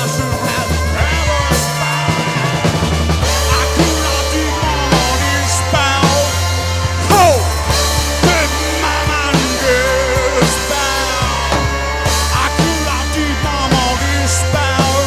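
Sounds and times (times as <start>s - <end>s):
drum kit steady beat: 0.0s - 15.0s
sliding lead guitar line: 0.0s - 15.0s
sustained bass: 0.0s - 15.0s.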